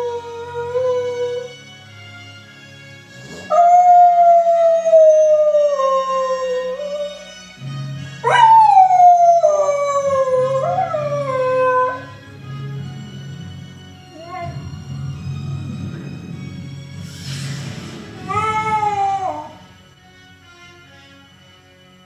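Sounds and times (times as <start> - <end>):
dog howling: 0.0 - 1.6, 3.1 - 20.0
orchestral music: 0.0 - 22.0.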